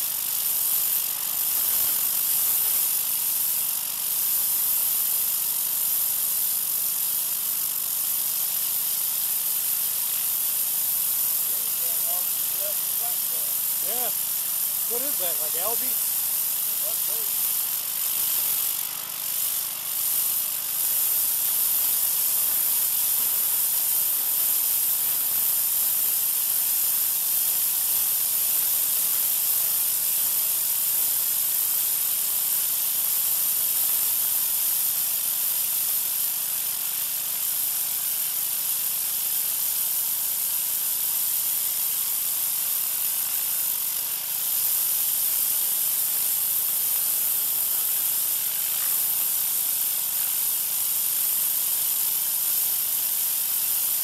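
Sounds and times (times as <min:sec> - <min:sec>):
high-pressure water hissing: 0:00.0 - 0:07.5, 0:08.1 - 0:54.0
pressure washer engine running: 0:00.0 - 0:33.5, 0:40.1 - 0:54.0.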